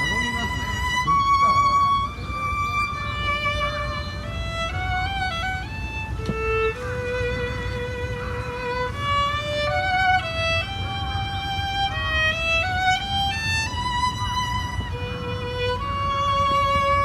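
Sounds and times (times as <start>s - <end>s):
solo violin slow melody: 0.0s - 17.0s.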